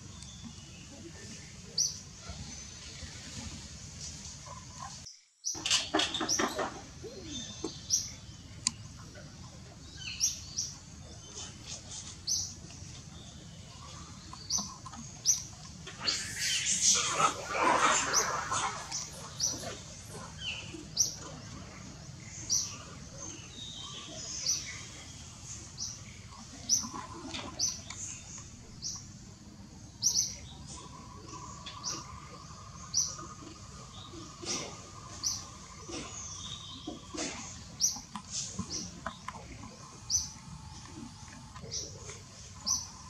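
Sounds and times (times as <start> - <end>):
small birds chirping: 4.4 - 43.0.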